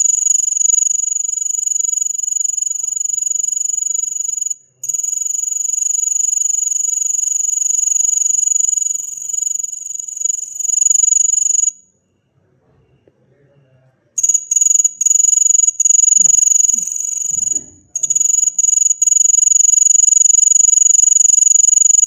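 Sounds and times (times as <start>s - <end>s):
cricket trilling: 0.0s - 12.3s, 14.2s - 22.0s.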